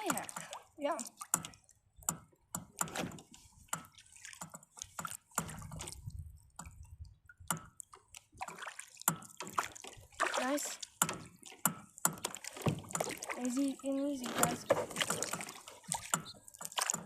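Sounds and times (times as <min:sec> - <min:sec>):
paddle dipping into water: 0:00.0 - 0:17.0
small splashes and drips: 0:00.0 - 0:17.0.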